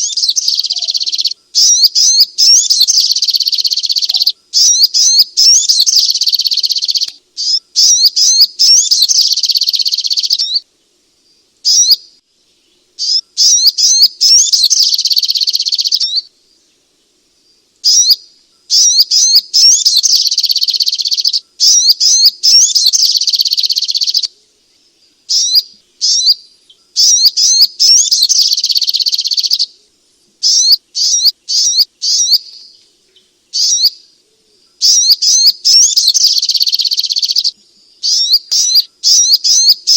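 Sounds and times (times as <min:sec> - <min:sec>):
bird chirping rapidly: 0:00.0 - 0:10.6, 0:11.6 - 0:12.1, 0:13.0 - 0:16.3, 0:17.8 - 0:24.3, 0:25.3 - 0:29.7, 0:30.4 - 0:32.8, 0:33.5 - 0:34.1, 0:34.8 - 0:39.9.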